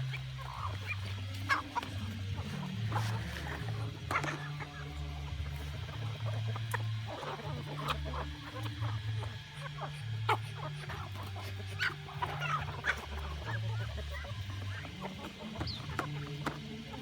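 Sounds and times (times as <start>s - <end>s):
chickens clucking: 0.0s - 17.0s
low background music: 0.0s - 17.0s.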